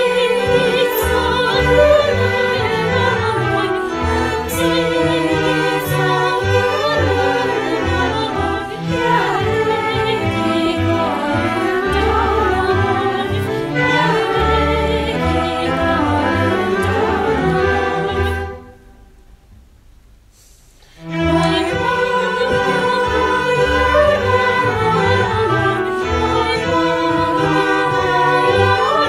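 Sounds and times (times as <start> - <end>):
mixed choir singing: 0.0 - 18.9, 21.0 - 29.0
string orchestra playing: 0.0 - 18.9, 21.0 - 29.0.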